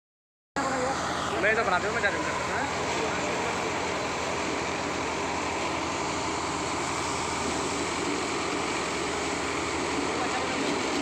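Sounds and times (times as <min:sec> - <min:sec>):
paddy thresher running: 0:00.6 - 0:11.0.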